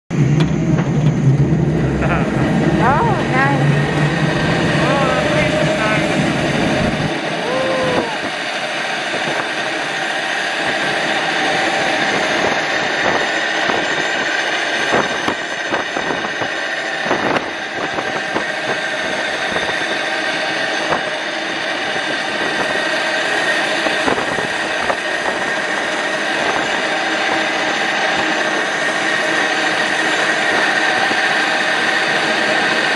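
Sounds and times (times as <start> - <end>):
cable car rushing whir: 0.1 - 32.9.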